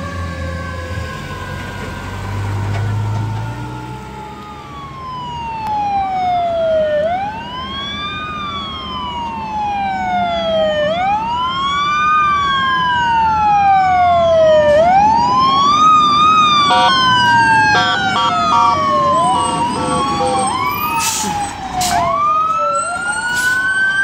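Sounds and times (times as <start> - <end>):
fire truck siren wailing: 0.0 - 24.0.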